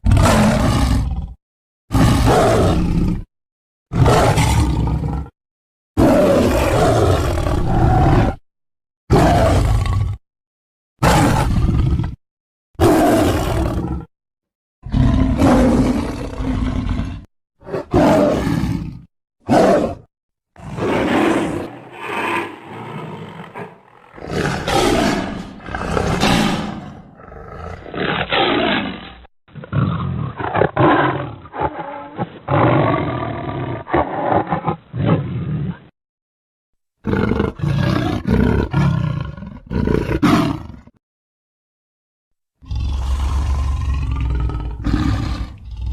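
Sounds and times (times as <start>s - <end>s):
big cat roars and snarls: 0.0s - 3.3s, 3.9s - 5.4s, 6.0s - 8.4s, 9.1s - 10.2s, 11.0s - 12.2s, 12.8s - 14.1s, 14.8s - 36.0s, 37.0s - 41.0s, 42.6s - 45.9s.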